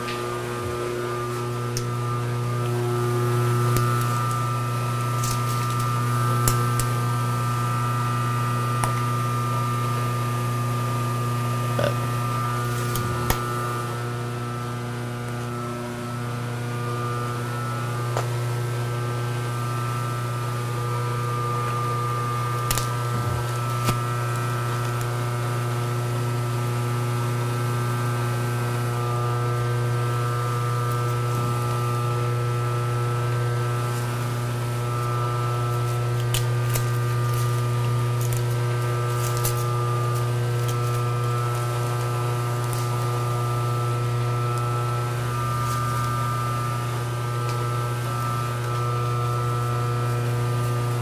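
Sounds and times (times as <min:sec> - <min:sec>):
lathe humming: 0:00.0 - 0:51.0.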